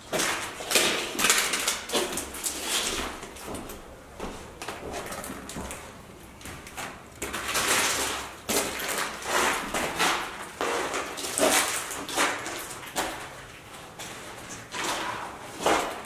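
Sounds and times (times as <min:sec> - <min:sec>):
footsteps crunching on paint flakes: 0:00.0 - 0:16.0.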